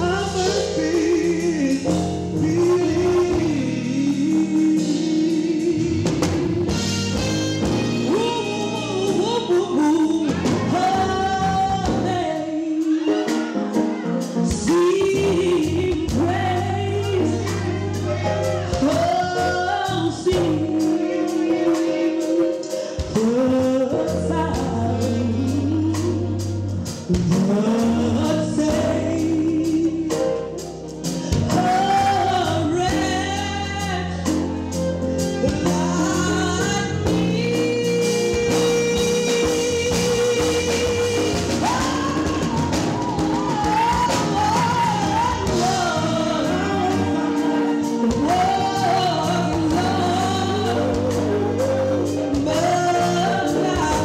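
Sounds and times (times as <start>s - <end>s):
keyboard-led band: 0.0s - 54.0s
vocal group singing gospel: 0.0s - 54.0s.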